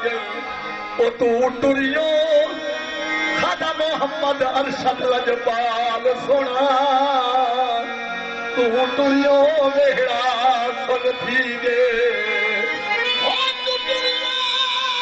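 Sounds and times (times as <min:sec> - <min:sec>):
person singing ornamented melody: 0:00.0 - 0:15.0.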